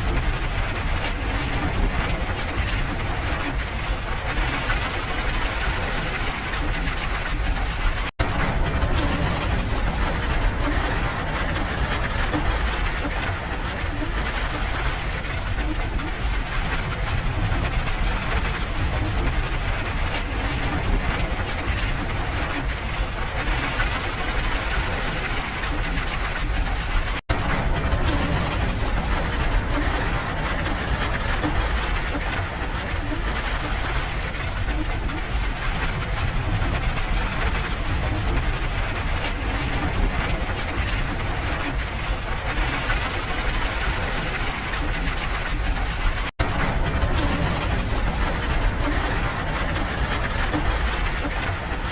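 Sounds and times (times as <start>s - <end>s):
low rumble: 0.0s - 51.9s
steady rain falling: 0.0s - 51.9s.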